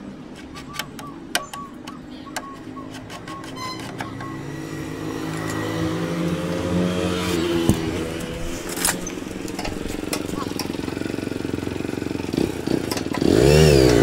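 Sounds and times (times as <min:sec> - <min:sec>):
motorcycle engine revving and idling: 0:00.4 - 0:14.0.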